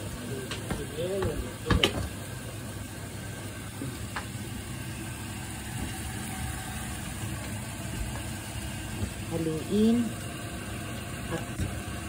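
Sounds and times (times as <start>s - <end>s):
low rumbling kitchen hum: 0.0s - 12.0s.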